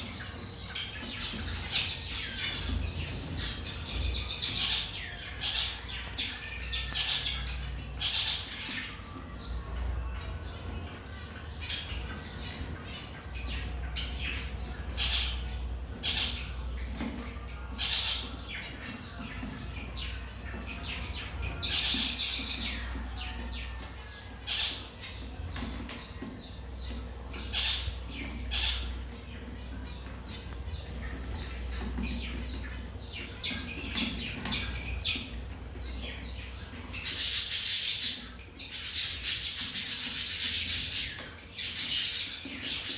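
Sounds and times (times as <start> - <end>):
birds chirping and squawking: 0.0 - 42.9.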